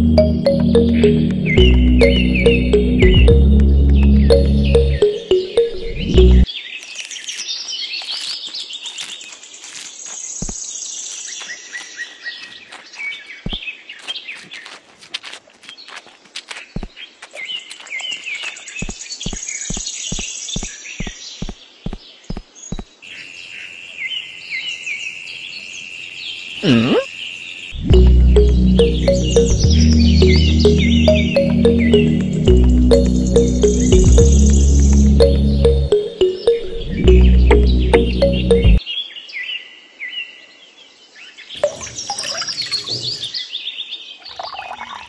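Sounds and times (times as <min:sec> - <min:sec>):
birds chirping: 0:00.0 - 0:38.8, 0:41.6 - 0:45.0.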